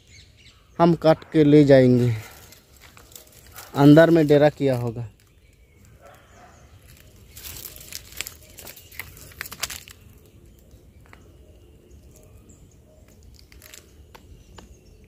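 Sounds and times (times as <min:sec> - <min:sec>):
dry leaves and twigs crunching: 0:01.8 - 0:11.4, 0:12.0 - 0:15.0.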